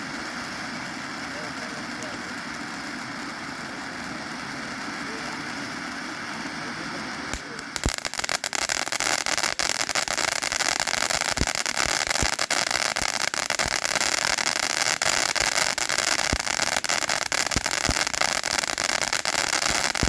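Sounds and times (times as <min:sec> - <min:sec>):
crackles and pops: 0:00.0 - 0:20.0
firework fountain hissing: 0:00.0 - 0:20.0.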